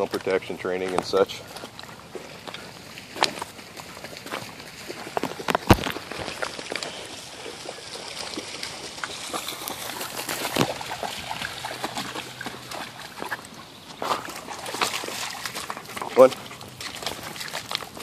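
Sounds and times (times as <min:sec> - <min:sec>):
dogs splashing in shallow water: 0:00.0 - 0:18.0.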